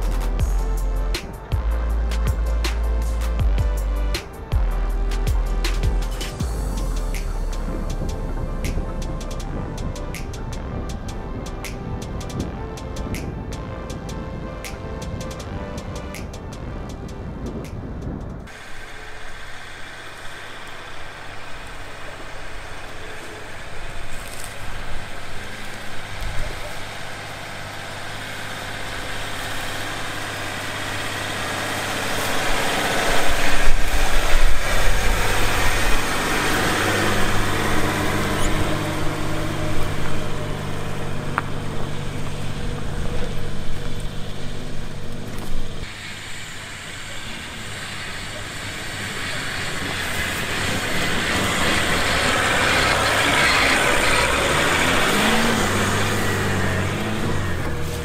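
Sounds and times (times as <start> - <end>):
tyres churning through grass: 0.0 - 58.0
vehicle engine climbing slope: 0.0 - 58.0.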